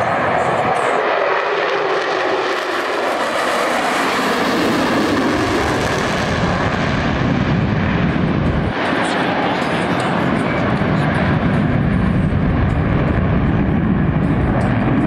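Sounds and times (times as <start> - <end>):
jet noise: 0.0 - 15.0.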